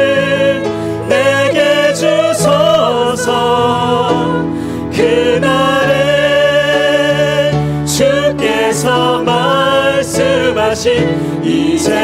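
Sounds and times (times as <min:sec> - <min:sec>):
instrumental accompaniment: 0:00.0 - 0:12.0
mixed voices singing worship song: 0:00.0 - 0:12.0.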